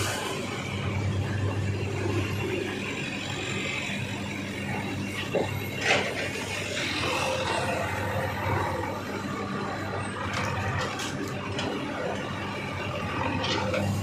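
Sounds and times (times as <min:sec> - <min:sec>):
conveyor machinery drone: 0:00.0 - 0:14.0.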